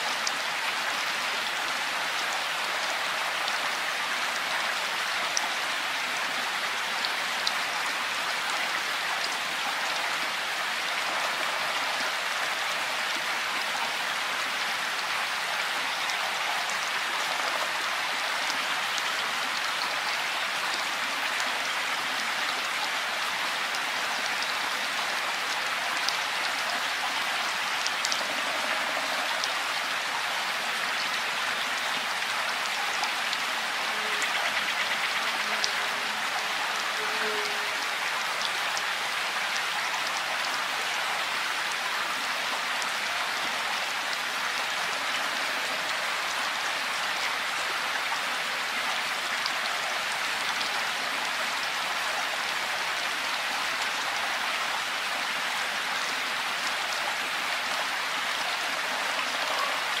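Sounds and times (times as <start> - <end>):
raindrops ticking on surfaces: 0.0 - 54.2
steady rain hiss: 0.0 - 60.0.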